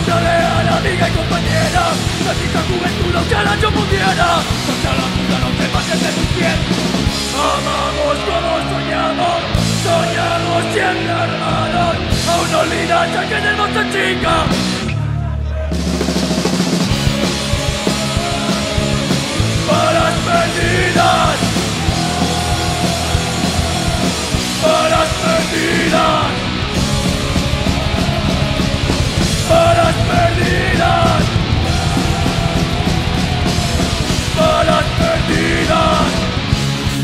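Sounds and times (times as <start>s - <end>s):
singer shouting: 0.0s - 16.1s, 17.0s - 36.4s
heavy metal band playing: 0.0s - 37.0s.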